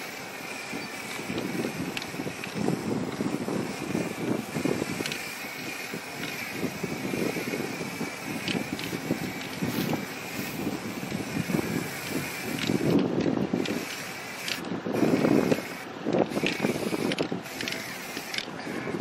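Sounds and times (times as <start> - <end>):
wind buffeting microphone: 0.1 - 19.0.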